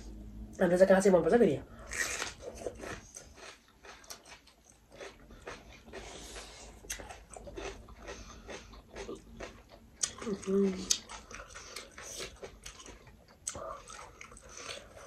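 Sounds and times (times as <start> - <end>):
chewing: 1.9 - 15.0.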